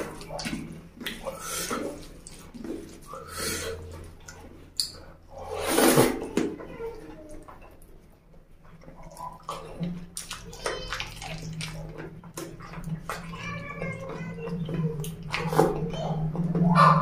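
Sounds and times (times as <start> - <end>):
chewing: 0.0 - 6.2, 7.0 - 17.0
hand squishing and mixing rice: 0.0 - 17.0.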